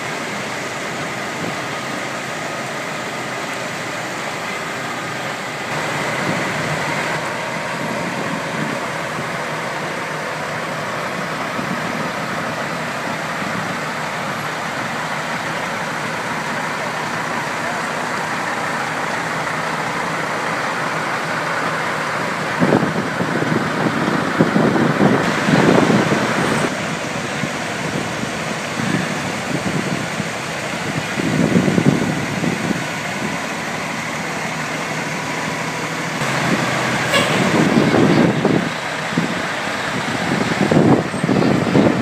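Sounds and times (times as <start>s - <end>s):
diesel trucks driving past: 0.0s - 42.0s.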